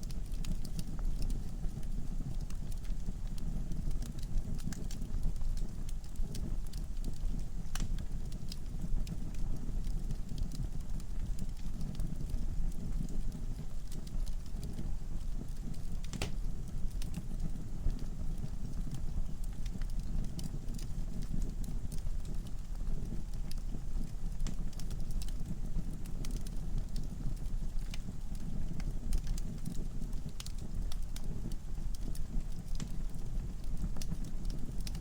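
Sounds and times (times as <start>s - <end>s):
burning logs crackling and popping: 0.0s - 35.0s
fire rumbling in fireplace: 0.0s - 35.0s.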